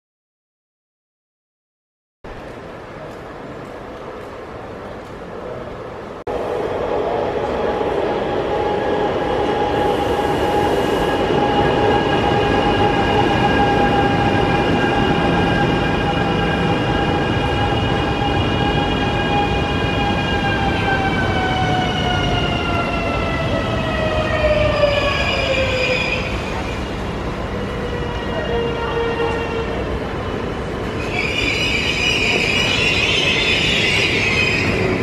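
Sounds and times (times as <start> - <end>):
electric train whine: 6.3 - 35.0.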